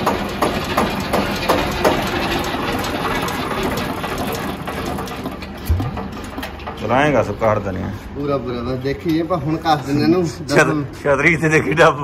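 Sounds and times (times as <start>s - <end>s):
diesel tractor engine idling: 0.0s - 11.2s.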